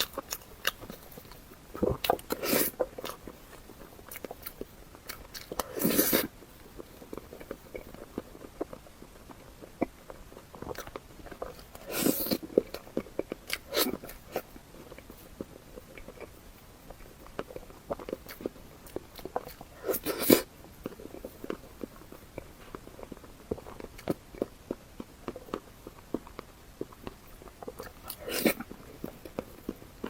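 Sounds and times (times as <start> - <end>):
wet chewing clicks: 0.0 - 30.0.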